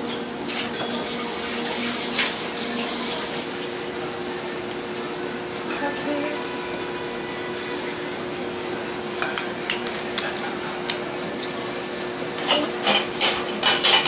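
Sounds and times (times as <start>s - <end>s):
electrical hum: 0.0s - 13.7s.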